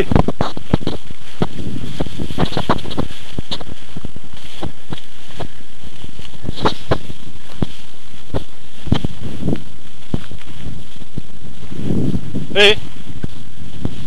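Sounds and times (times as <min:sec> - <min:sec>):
grass brushing microphone: 0:00.0 - 0:14.0
wind noise on microphone: 0:00.0 - 0:14.0.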